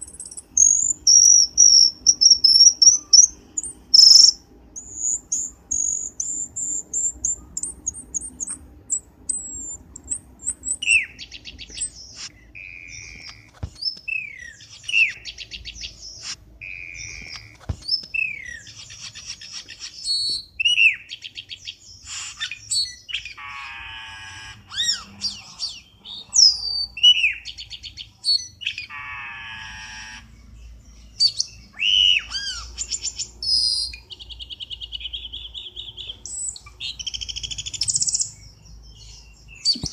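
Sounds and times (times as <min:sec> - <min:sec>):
harsh rasping bird calls: 0:00.0 - 0:39.9
rapid high bird chirps: 0:00.0 - 0:39.9.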